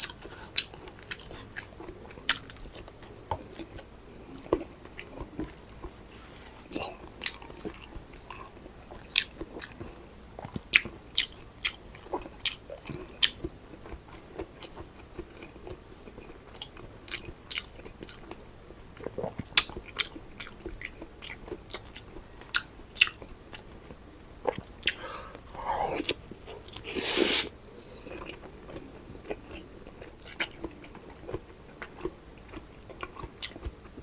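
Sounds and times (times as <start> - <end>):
person chewing: 0.0 - 18.4, 19.0 - 33.9.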